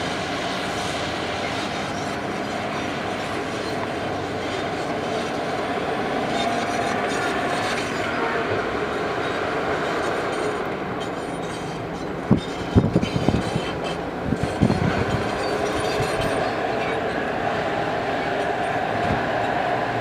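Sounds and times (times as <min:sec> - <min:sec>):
heavy machine engine running: 0:00.0 - 0:20.0.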